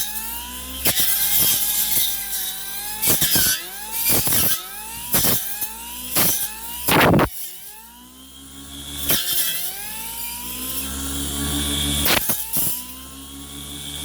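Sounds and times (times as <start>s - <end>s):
brush cutter motor whining: 0.0s - 14.0s.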